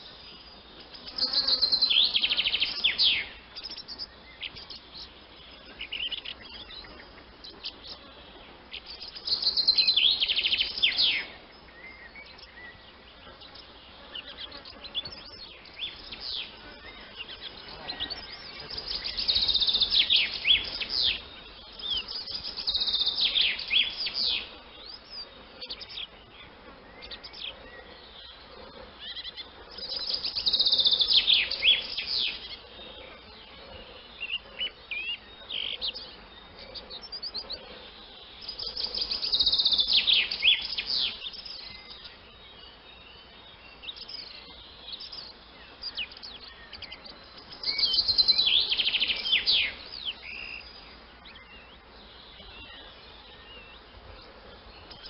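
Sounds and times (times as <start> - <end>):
swallows twittering: 0.0 - 55.0.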